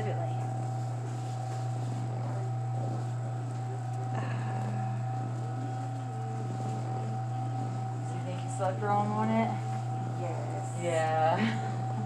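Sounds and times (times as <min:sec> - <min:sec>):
faint machine whine: 0:00.0 - 0:12.0
low electric hum: 0:00.0 - 0:12.0.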